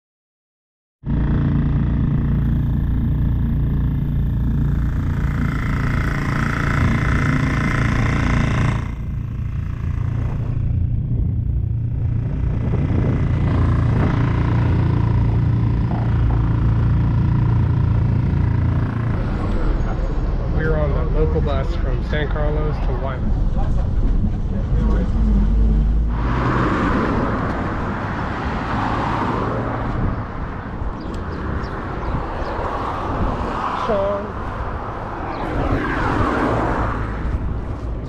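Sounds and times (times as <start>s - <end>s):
road rumble: 1.0s - 38.0s
vehicle engine running: 1.0s - 38.0s.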